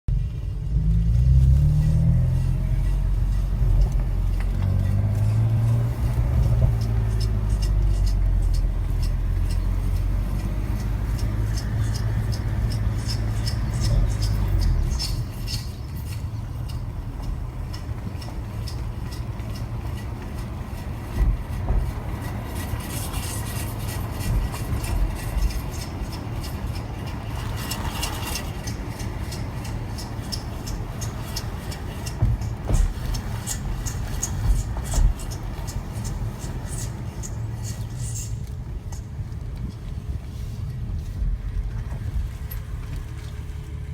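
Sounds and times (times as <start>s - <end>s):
car engine running: 0.1s - 43.9s
high ticking from brakes: 0.2s - 43.9s.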